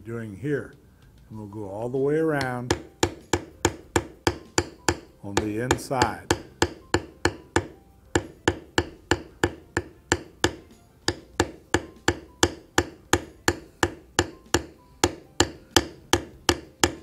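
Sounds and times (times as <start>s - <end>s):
mallet tapping leather tool: 2.3s - 17.0s.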